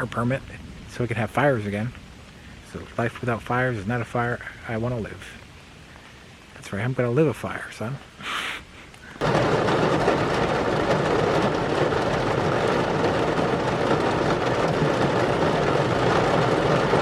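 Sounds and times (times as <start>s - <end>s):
heavy rain drumming on roof: 0.0s - 8.3s, 9.1s - 17.0s.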